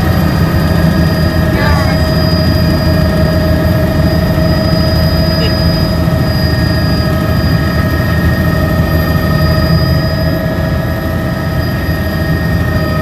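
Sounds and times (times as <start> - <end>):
high-pitched whine: 0.0 - 11.9
helicopter rotor throb: 0.0 - 13.0.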